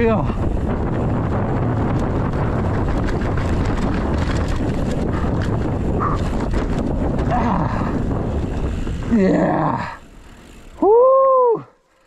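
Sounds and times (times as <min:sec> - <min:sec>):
wind buffeting microphone: 0:00.0 - 0:10.8
bike rolling over dirt trail: 0:00.0 - 0:10.9
bike clicks and rattles: 0:00.0 - 0:12.0.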